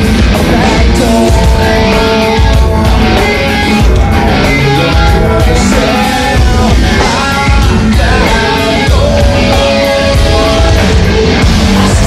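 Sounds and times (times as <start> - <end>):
metal band playing loud: 0.0 - 12.0.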